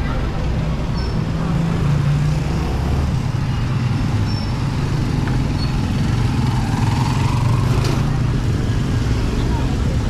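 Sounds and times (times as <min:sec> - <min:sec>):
street traffic: 0:00.0 - 0:10.0
vehicle engine humming: 0:00.0 - 0:10.0.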